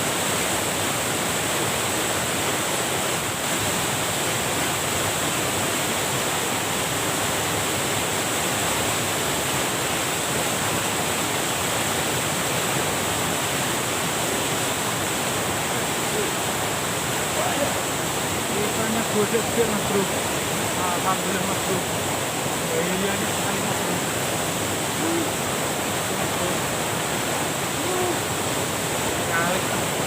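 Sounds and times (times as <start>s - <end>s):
water rushing over a weir: 0.0s - 30.0s.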